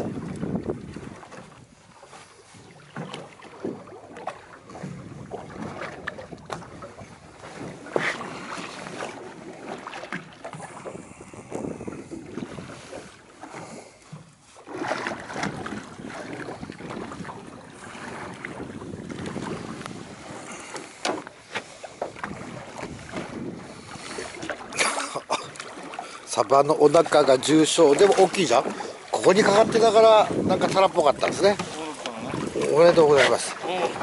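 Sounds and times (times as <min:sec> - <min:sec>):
wind buffeting microphone: 0:00.0 - 0:02.6, 0:03.5 - 0:09.8, 0:10.5 - 0:13.8, 0:14.8 - 0:21.0, 0:22.0 - 0:24.7, 0:27.0 - 0:34.0
sea washing around boat: 0:00.0 - 0:34.0.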